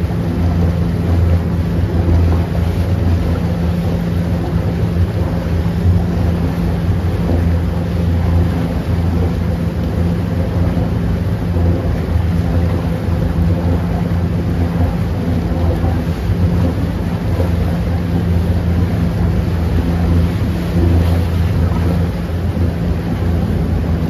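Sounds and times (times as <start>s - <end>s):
motorboat engine droning: 0.0s - 24.0s
propeller wash churning: 0.0s - 24.0s.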